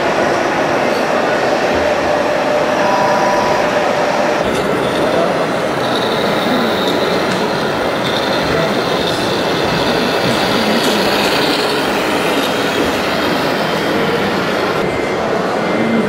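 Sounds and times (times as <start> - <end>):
continuous rumbling hall din: 0.0 - 16.0
faint high whines: 0.0 - 16.0.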